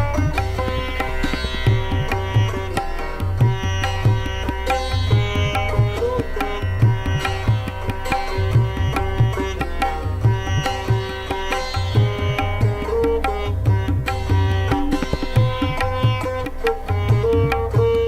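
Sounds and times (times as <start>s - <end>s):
hand drum beats: 0.0s - 18.0s
plucked string instrument: 0.0s - 18.0s.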